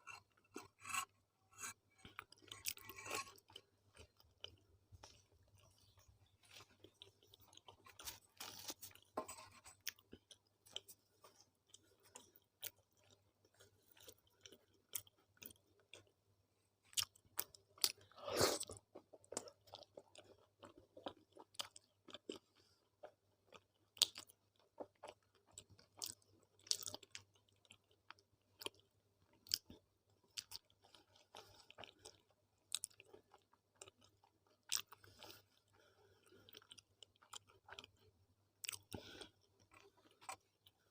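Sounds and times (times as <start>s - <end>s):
person chewing food: 0.0s - 16.2s, 16.9s - 40.9s.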